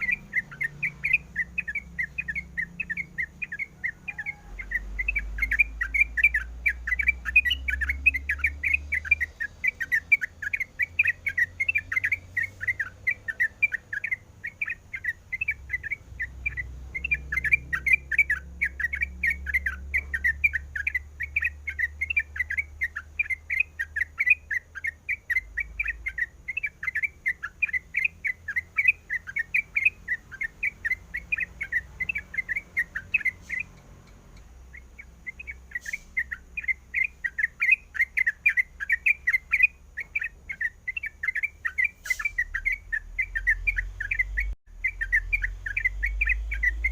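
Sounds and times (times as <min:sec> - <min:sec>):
bird chirping song: 0:00.0 - 0:46.9.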